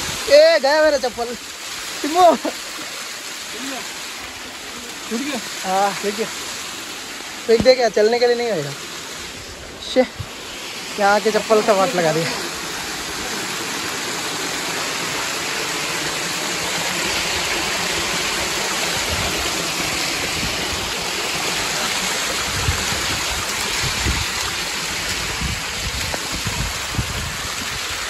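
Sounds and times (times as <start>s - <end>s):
water rushing down stone steps: 0.0s - 28.0s.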